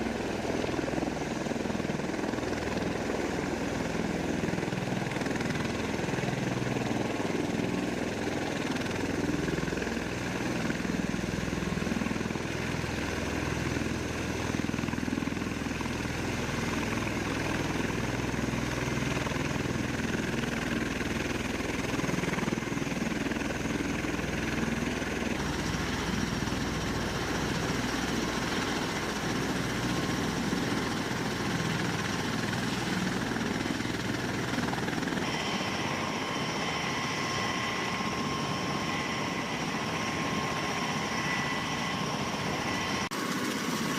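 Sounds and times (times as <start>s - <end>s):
tiltrotor aircraft engines running: 0.0s - 43.9s.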